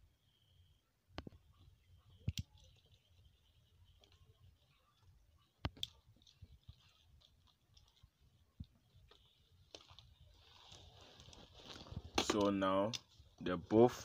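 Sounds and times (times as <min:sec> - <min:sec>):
plastic strands clicking: 0:01.2 - 0:04.3, 0:05.0 - 0:13.4.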